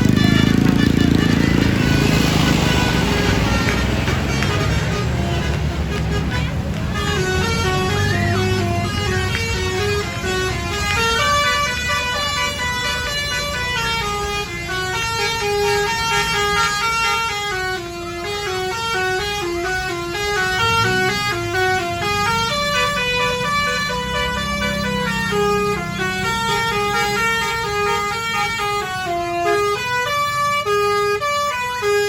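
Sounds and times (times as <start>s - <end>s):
bus engine rumble: 0.0s - 32.0s
multi-tone horn tune: 0.0s - 32.0s.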